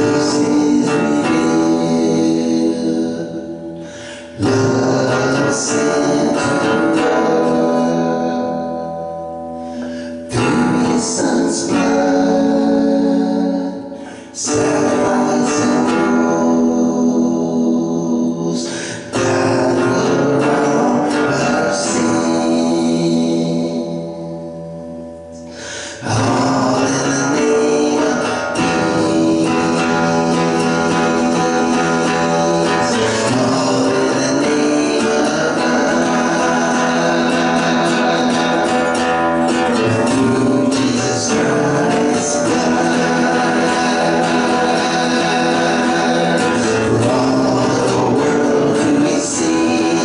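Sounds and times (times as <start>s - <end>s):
acoustic guitar strummed: 0.0s - 50.0s
man singing: 0.0s - 50.0s.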